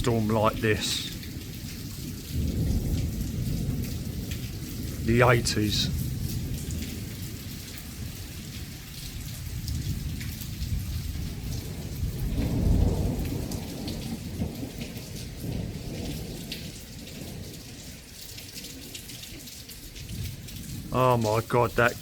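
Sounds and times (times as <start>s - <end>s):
rolling thunder rumble: 0.0s - 17.9s, 19.9s - 22.0s
heavy rain: 0.0s - 22.0s
raindrops hitting nearby: 0.0s - 22.0s.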